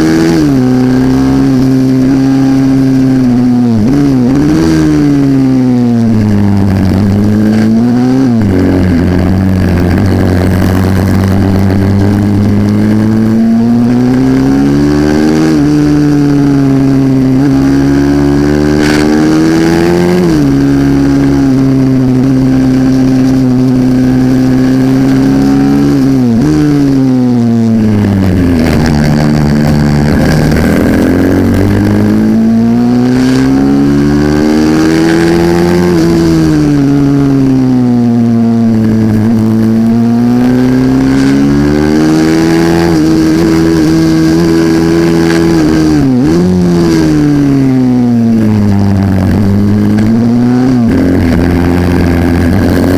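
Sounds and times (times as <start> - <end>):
motorbike engine revving: 0.0 - 52.9
steady rush of noise: 0.0 - 52.9.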